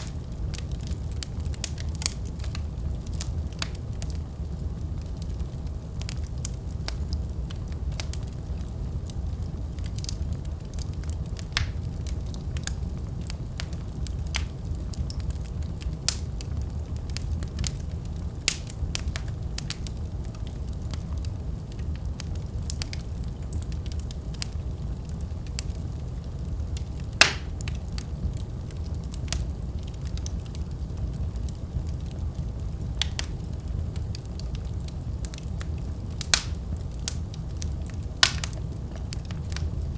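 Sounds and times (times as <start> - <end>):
fireplace flames rumbling: 0.0 - 39.9
wood fire crackling and popping: 0.0 - 39.9.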